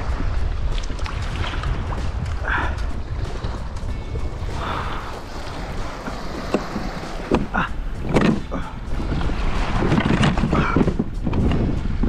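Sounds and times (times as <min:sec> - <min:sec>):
water against kayak hull: 0:00.0 - 0:12.0
wind buffeting microphone: 0:00.0 - 0:12.0.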